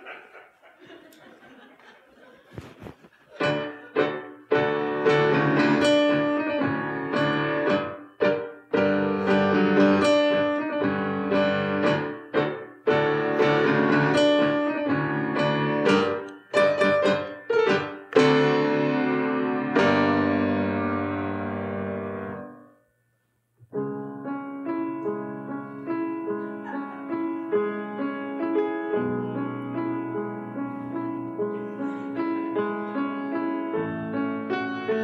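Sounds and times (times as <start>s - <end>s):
piano chords: 3.4s - 22.8s, 23.6s - 35.0s.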